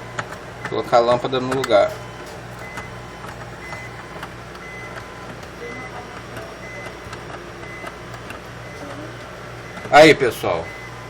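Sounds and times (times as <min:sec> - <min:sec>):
refrigerator alarm beeps: 0:00.0 - 0:11.0
steady low hum: 0:00.0 - 0:11.0.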